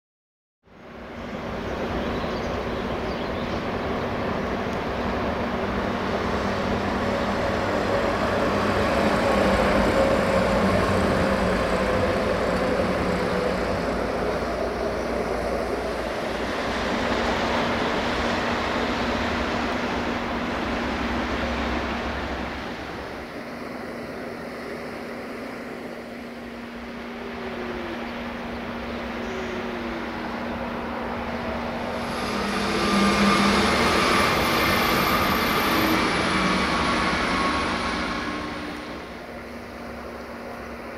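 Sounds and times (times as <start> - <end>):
diesel locomotive engine drone: 0.6 - 40.9.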